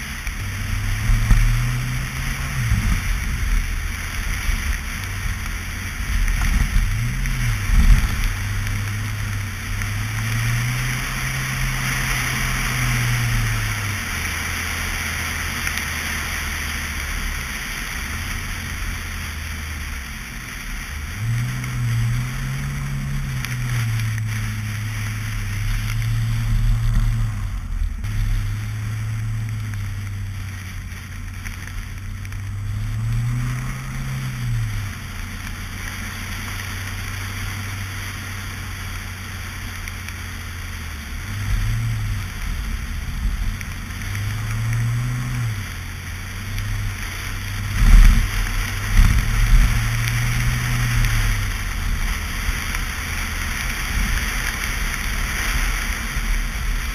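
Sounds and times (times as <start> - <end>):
car engine revving: 0.0 - 56.9
road and wind noise: 0.0 - 56.9.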